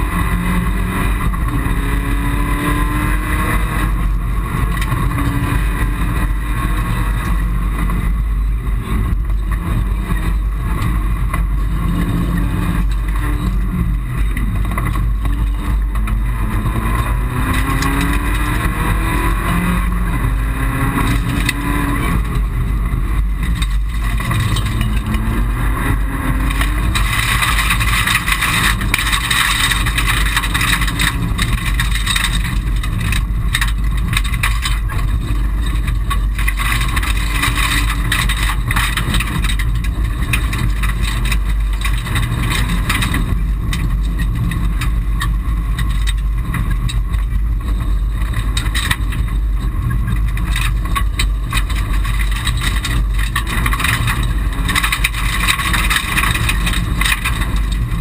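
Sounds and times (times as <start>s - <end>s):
rally car engine working hard: 0.0s - 58.0s
tyre and road noise: 0.0s - 58.0s.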